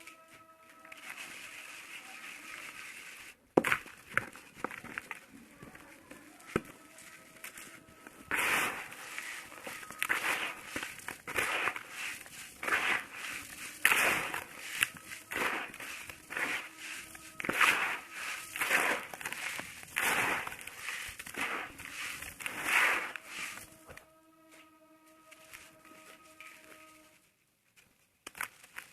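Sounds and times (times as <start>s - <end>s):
sand block crunching and crumbling: 0.0s - 24.1s, 28.3s - 28.9s.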